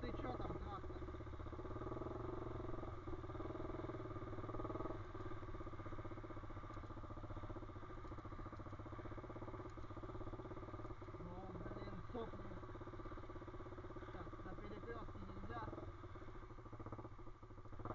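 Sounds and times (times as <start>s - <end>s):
small motorcycle engine running: 0.0s - 17.9s.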